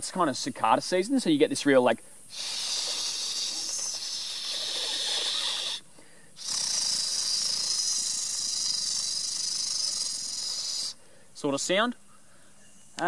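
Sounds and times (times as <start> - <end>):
man imitating cicada call: 0.0 - 13.0.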